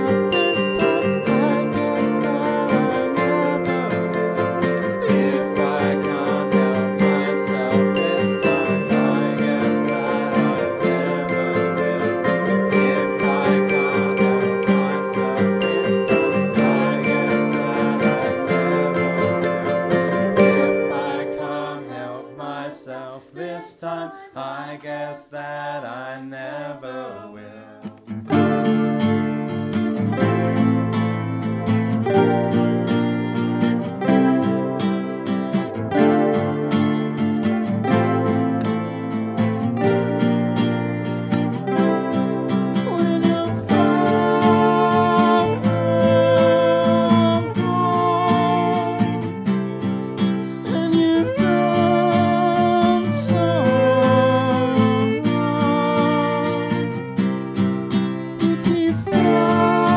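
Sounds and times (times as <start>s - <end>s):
strummed acoustic guitar: 0.0s - 23.0s, 27.8s - 59.9s
violin bowed notes: 0.0s - 23.2s, 28.3s - 58.0s, 58.7s - 59.9s
ukulele strumming: 0.0s - 24.3s, 28.0s - 59.9s
person singing: 0.0s - 59.9s.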